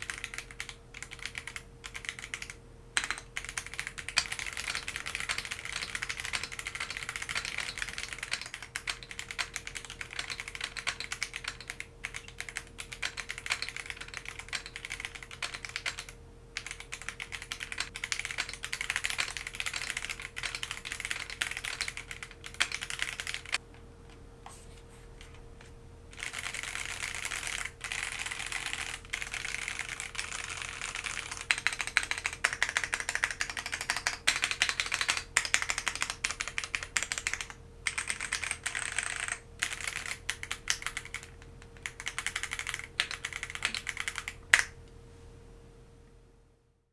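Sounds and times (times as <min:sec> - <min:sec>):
mechanical keyboard typing: 0:00.0 - 0:23.6, 0:26.2 - 0:44.8.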